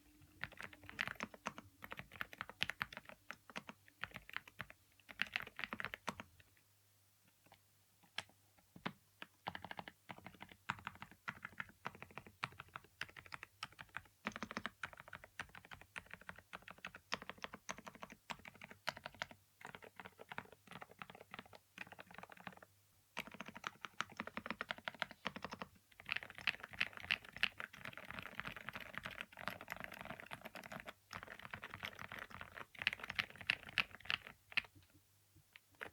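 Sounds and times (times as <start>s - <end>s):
typing on a mechanical keyboard: 0.4s - 6.3s, 7.4s - 34.8s, 35.6s - 35.9s.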